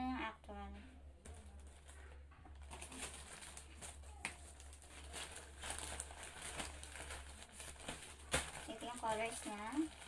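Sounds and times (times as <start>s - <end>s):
plastic bags crinkling: 1.2s - 10.0s.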